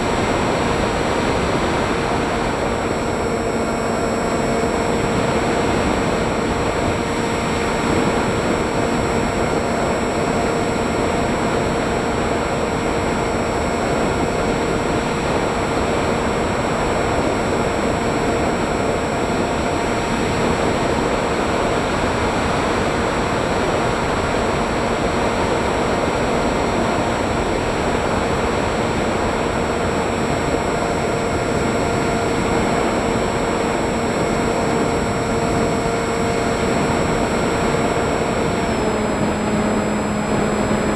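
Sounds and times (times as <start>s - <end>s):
propeller motor whine: 0.0s - 40.9s.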